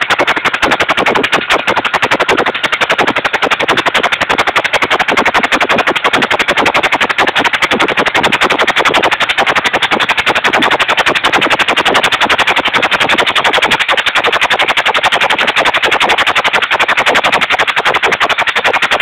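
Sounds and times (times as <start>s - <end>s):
engine driving generator: 0.0s - 19.0s.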